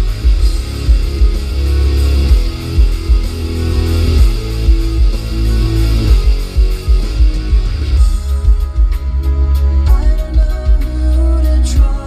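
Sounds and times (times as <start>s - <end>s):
guitar: 0.0s - 12.0s
heavy subwoofer bass: 0.0s - 12.0s
loud music on car stereo: 0.0s - 12.0s.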